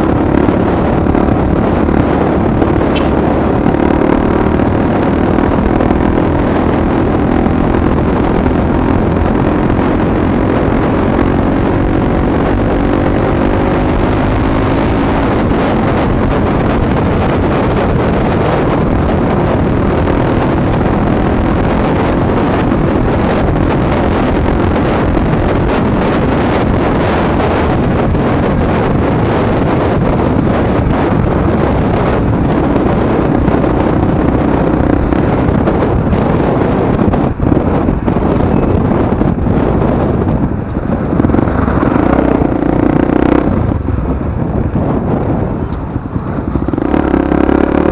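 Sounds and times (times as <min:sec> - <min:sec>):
motorcycle engine: 0:00.0 - 0:47.9
wind noise on microphone: 0:00.0 - 0:47.9.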